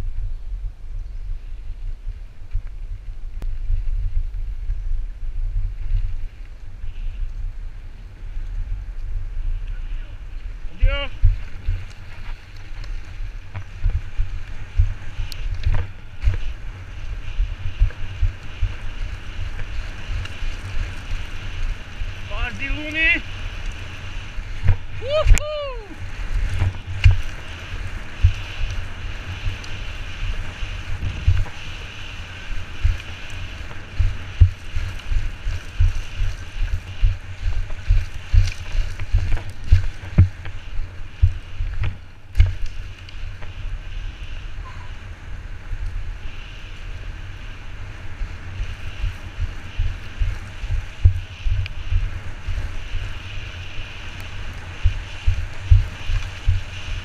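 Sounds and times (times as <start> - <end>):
wheels rumbling on gravel trail: 0.0 - 57.0
wind buffeting microphone: 0.0 - 57.0.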